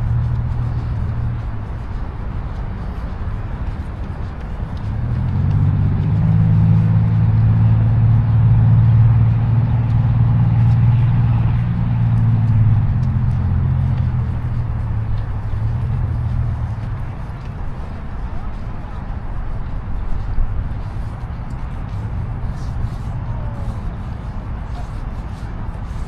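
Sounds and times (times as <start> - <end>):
vehicle engine passing by: 0.0 - 26.0.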